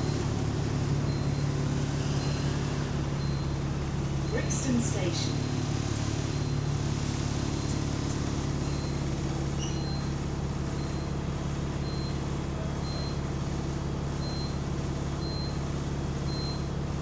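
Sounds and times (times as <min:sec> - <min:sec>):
diesel bus engine rumbling: 0:00.0 - 0:17.0.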